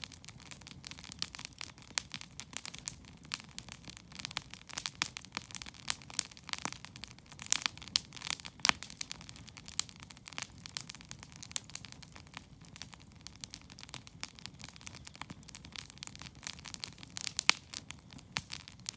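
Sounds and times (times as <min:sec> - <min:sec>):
campfire crackling and popping: 0:00.0 - 0:18.9
low rumble of burning fire: 0:00.0 - 0:18.9.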